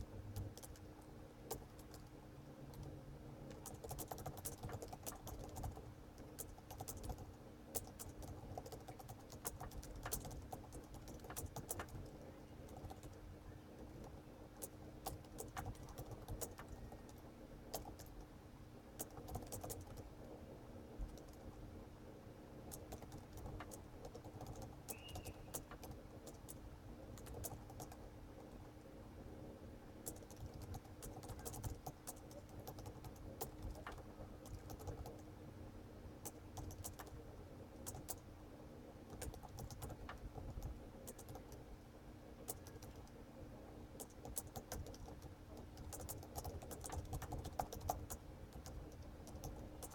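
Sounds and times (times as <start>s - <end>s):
faint steady hum: 0.0s - 49.9s
keyboard typing: 0.3s - 2.1s, 2.7s - 13.2s, 13.8s - 18.3s, 19.0s - 20.1s, 21.0s - 21.6s, 22.7s - 28.6s, 30.0s - 35.3s, 36.2s - 37.2s, 37.8s - 38.2s, 39.1s - 41.6s, 42.4s - 43.2s, 44.0s - 49.9s.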